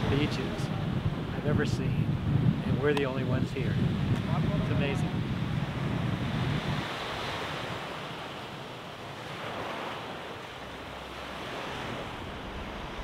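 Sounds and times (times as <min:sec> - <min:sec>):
small waves washing onto beach: 0:00.0 - 0:13.0.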